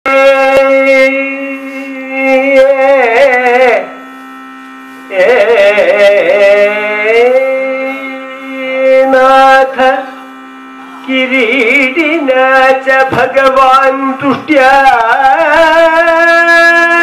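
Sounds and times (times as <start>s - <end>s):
person singing ornamented phrases: 0.1s - 4.0s, 5.1s - 10.3s, 11.0s - 17.0s
steady drone: 0.1s - 17.0s.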